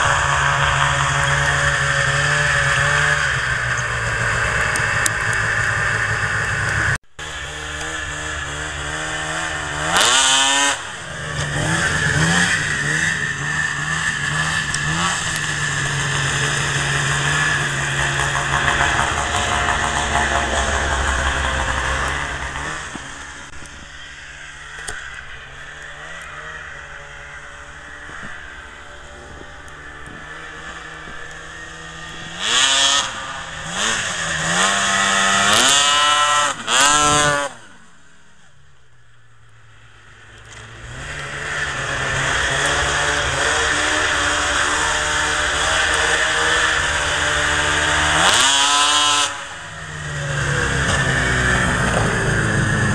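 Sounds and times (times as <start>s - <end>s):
snowmobile engine idling and revving: 0.0s - 52.9s.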